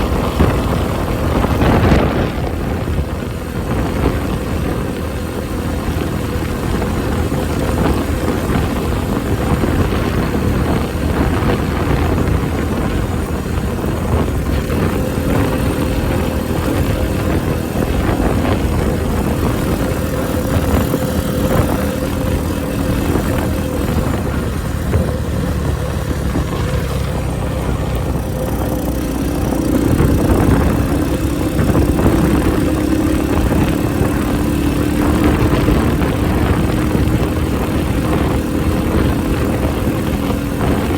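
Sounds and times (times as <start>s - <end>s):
small motorcycle engine running: 0.0s - 40.9s
wind buffeting microphone: 0.0s - 40.9s.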